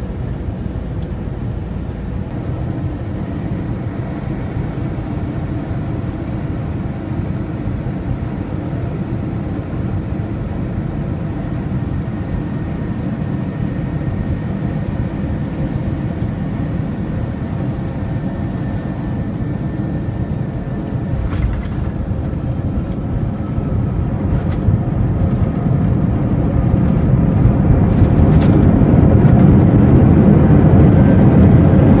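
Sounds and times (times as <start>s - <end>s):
airliner engine rumble in cabin: 0.0s - 32.0s.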